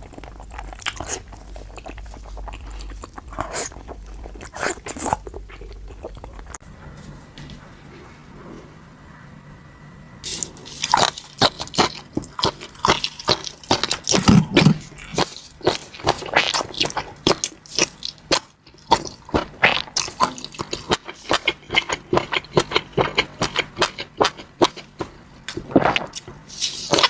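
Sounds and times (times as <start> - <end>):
person chewing and biting food: 0.0 - 6.6, 10.2 - 27.0.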